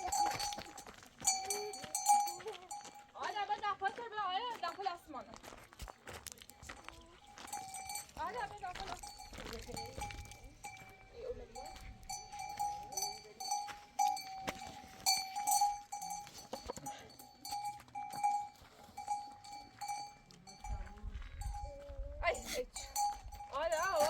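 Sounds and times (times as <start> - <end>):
metal livestock bell ringing: 0.0 - 3.9, 4.7 - 24.0.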